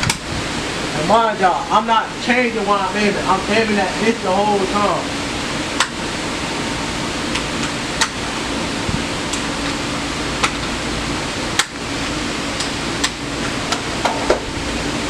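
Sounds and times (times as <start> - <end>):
ventilation drone: 0.0 - 15.0.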